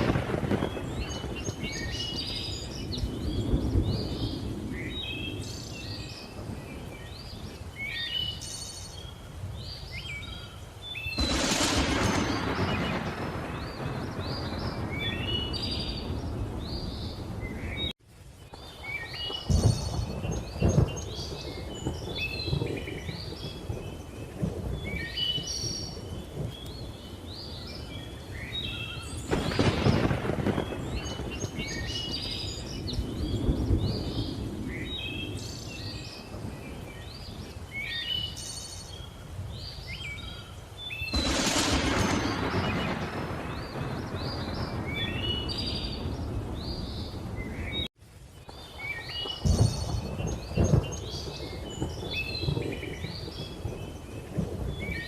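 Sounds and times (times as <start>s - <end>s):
thunder rumbling: 0.0s - 8.0s, 11.0s - 17.9s, 18.5s - 40.4s, 41.0s - 47.9s, 48.5s - 55.0s
birds chirping: 0.0s - 55.0s
steady rain: 0.0s - 55.0s.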